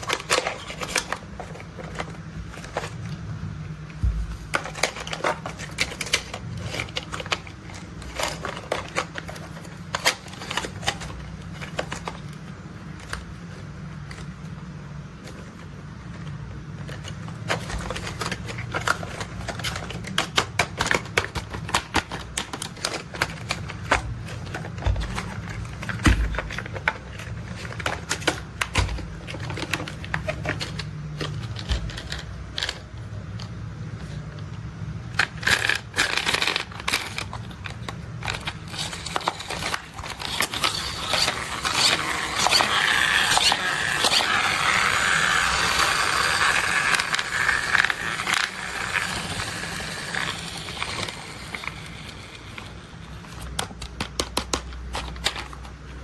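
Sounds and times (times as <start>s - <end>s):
plastic toys clicking and rattling: 0.0s - 3.3s, 4.0s - 14.3s, 15.2s - 34.2s, 35.0s - 56.0s.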